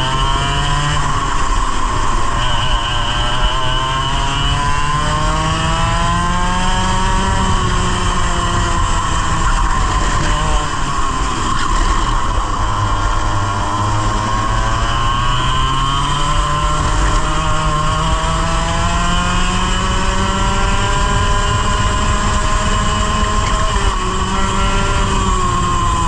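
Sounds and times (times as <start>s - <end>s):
kart engine accelerating: 0.0s - 26.0s.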